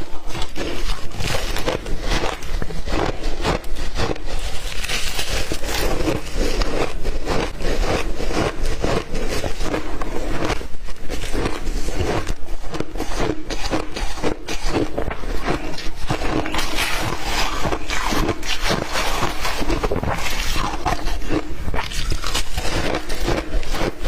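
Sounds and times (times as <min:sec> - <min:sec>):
ice crunching being chewed: 0:00.0 - 0:24.0.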